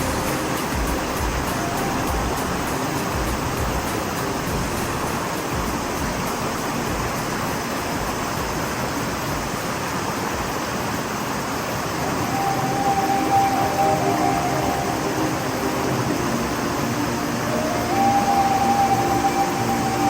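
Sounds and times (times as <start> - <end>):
rushing stream water: 0.0 - 20.0.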